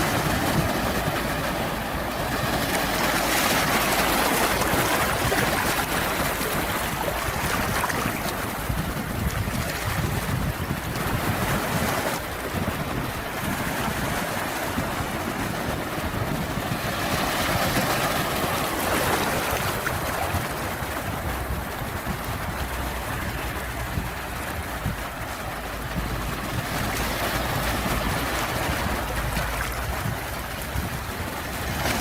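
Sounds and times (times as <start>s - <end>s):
sea waves washing ashore: 0.0s - 32.0s.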